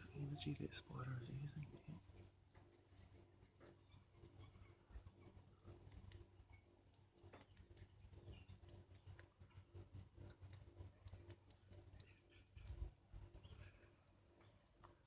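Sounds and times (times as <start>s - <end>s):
faint irregular ticks and clicks: 0.0s - 15.0s.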